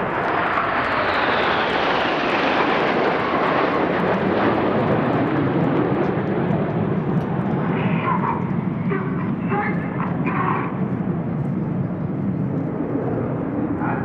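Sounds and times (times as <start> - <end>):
jets flying past: 0.0 - 14.0.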